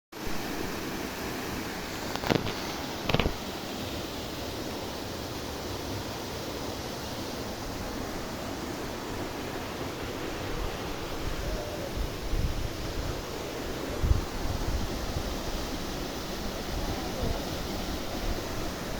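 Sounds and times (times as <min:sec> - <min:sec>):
waterfall roaring: 0:00.4 - 0:18.9.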